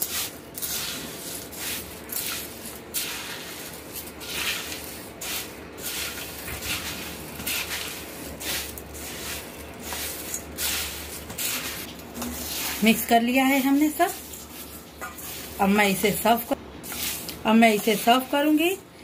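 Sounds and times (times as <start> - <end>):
spatula scraping in steel bowl: 0.0 - 16.2.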